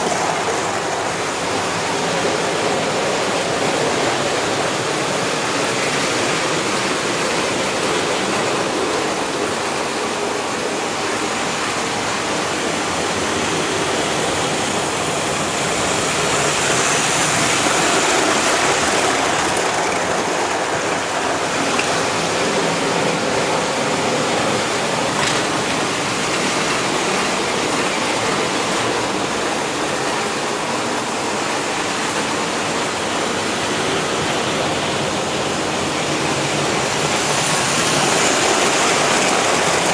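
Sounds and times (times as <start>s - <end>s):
model train rolling rumble: 0.0s - 39.9s.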